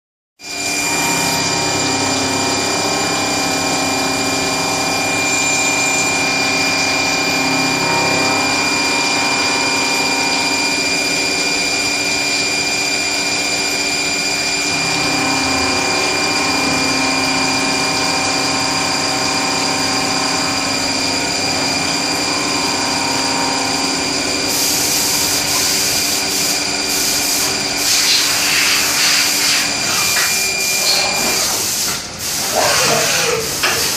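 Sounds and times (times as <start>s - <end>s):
machine tool whine: 0.4s - 33.9s
dense mechanical hum: 0.7s - 33.9s.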